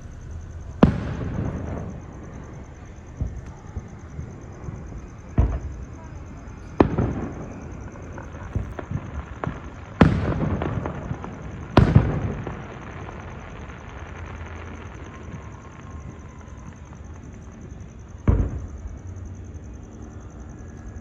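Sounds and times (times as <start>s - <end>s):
fireworks crackling pops: 0.0s - 19.2s
fireworks booming: 0.0s - 20.0s.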